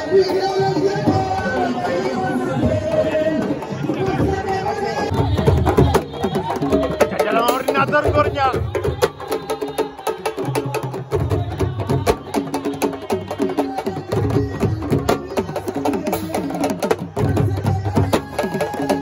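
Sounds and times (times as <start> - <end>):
drums played fast: 0.0 - 19.0.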